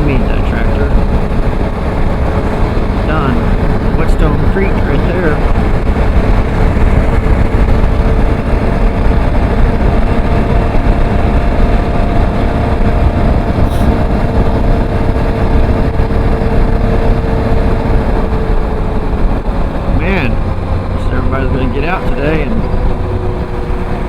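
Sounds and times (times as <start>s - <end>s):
motorcycle engine drone: 0.0s - 24.0s
wind rush: 0.0s - 24.0s.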